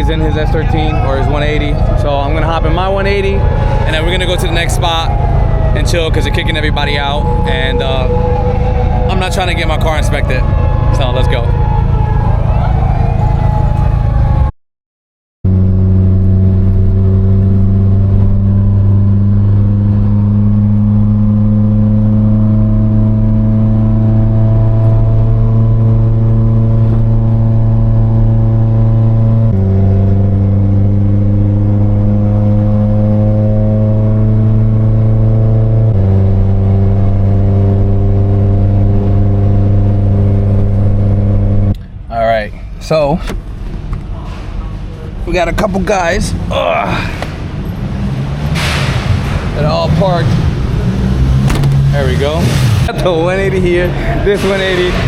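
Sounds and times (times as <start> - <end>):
car engine droning: 0.0 - 14.5, 15.4 - 55.0.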